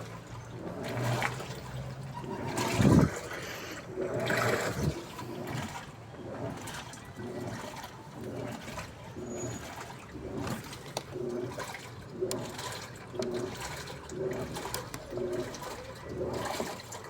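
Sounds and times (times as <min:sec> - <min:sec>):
water sloshing in washing machine: 0:00.0 - 0:17.0.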